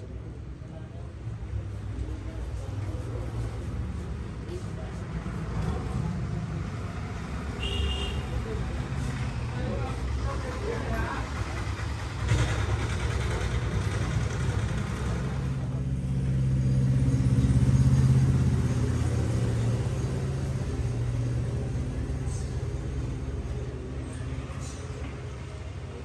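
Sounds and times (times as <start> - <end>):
vehicle engine passing: 2.1 - 26.0.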